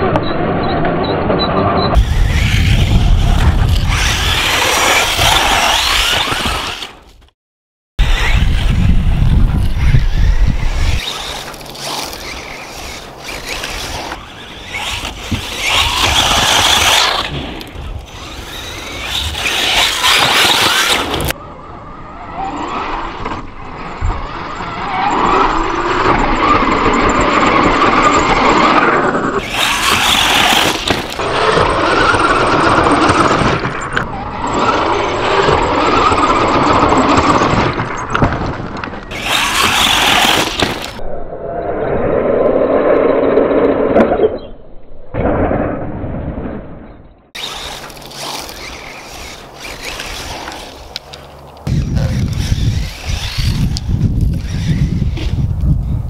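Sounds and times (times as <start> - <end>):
rc car motors whining: 2.0 - 7.2, 8.0 - 41.0, 47.4 - 56.0.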